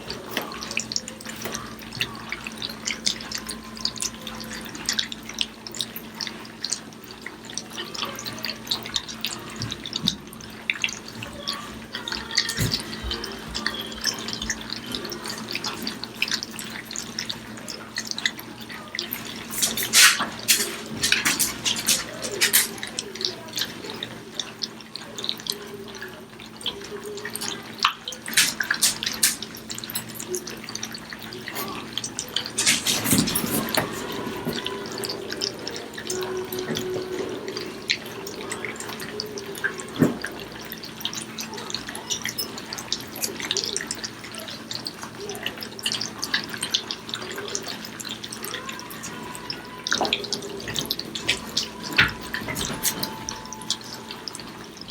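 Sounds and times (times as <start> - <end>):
puppies lapping and chewing food: 0.0 - 54.9.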